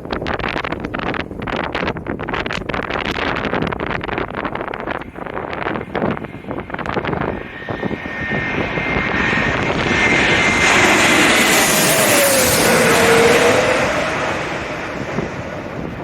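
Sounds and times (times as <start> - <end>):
wind buffeting microphone: 0.0 - 16.0
jet airliner engines overhead: 2.9 - 16.0.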